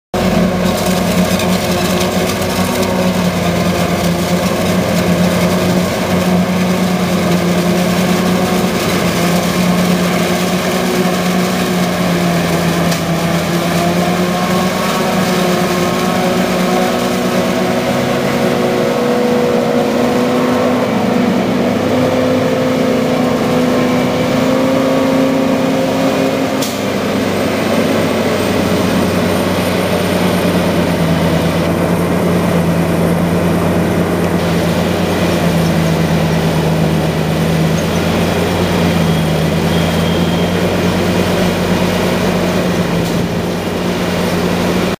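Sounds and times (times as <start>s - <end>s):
harvester engine drone: 0.2s - 44.9s.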